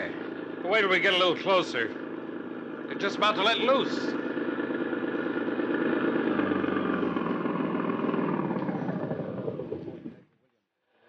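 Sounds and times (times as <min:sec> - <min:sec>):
jeep engine running: 0:00.0 - 0:10.3.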